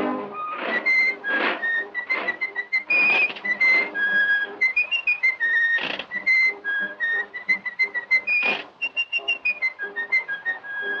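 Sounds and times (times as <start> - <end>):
light musical accompaniment: 0.0 - 11.0
whistled melody: 0.2 - 11.0.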